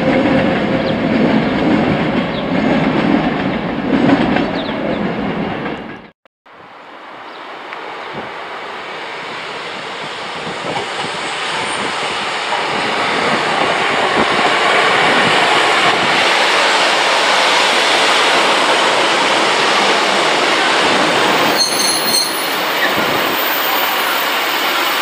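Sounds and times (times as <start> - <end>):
diesel train passing: 0.0 - 25.0.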